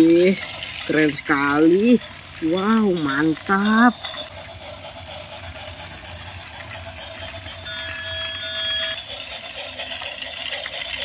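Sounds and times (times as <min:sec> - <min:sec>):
toy train motors whirring: 0:00.0 - 0:11.0.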